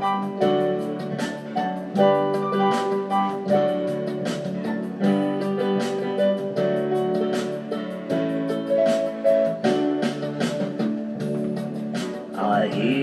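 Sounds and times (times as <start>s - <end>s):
instrumental guitar melody: 0.0s - 13.0s
steady beat: 0.0s - 13.0s.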